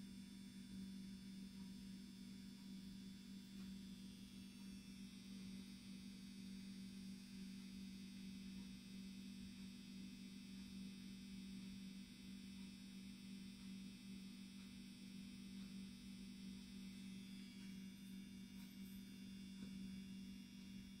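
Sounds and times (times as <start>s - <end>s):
faint low electrical hum: 0.0s - 21.0s.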